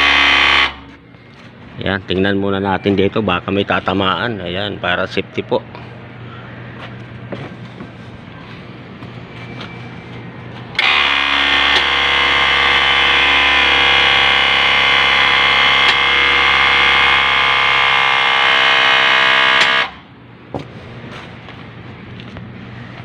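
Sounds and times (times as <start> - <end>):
hydraulic pump whine: 0.0 - 1.9, 5.7 - 23.0.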